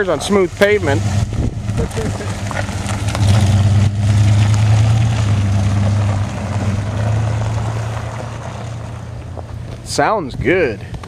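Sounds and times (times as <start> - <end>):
deep truck exhaust note: 0.0 - 9.3.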